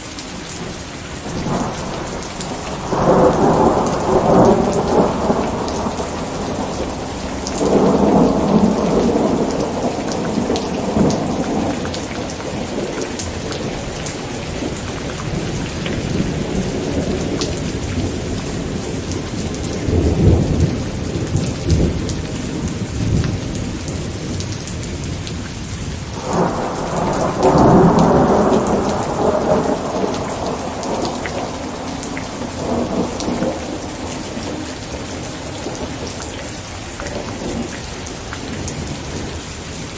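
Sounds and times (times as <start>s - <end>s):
steady rain falling: 0.0s - 39.9s
thunder rumbling: 0.6s - 39.9s.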